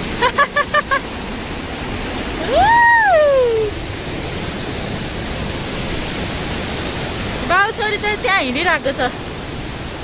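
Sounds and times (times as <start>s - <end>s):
waterfall and river rushing: 0.0s - 10.0s.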